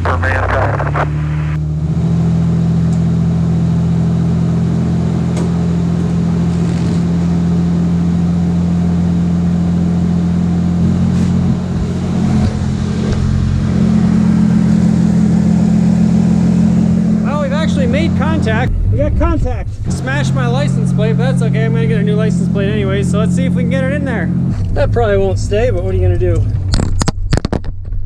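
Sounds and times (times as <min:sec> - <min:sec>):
car engine idling: 0:00.0 - 0:26.8.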